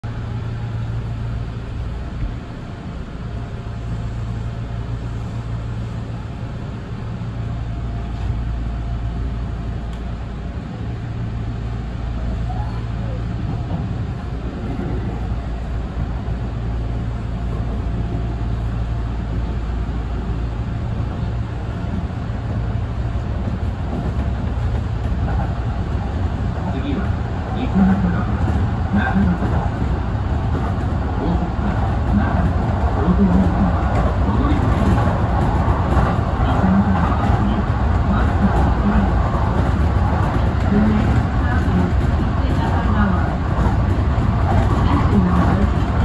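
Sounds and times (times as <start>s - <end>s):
constant train hum: 0.0s - 46.0s
train wheels rumbling on rails: 0.0s - 46.0s.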